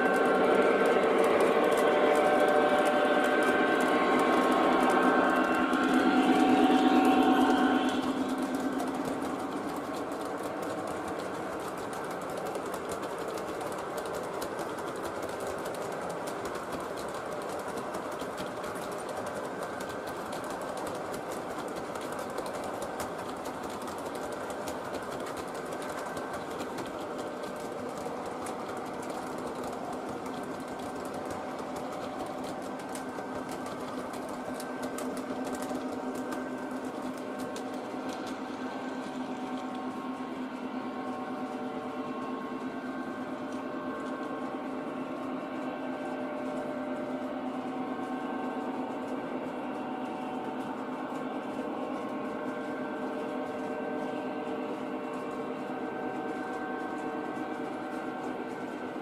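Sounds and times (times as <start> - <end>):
model locomotive passing: 0.0 - 59.0
model train wheels clattering: 0.0 - 59.0.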